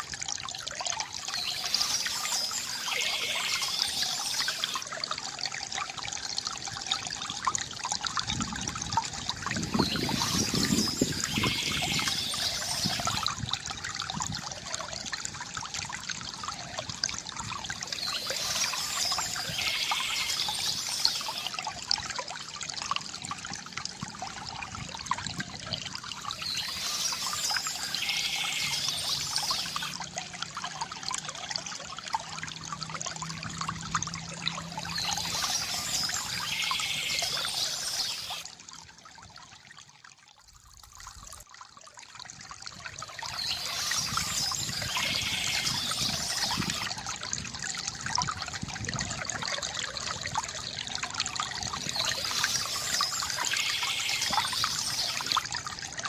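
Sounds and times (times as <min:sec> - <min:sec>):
water trickling from fountain spout: 0:00.0 - 0:56.0.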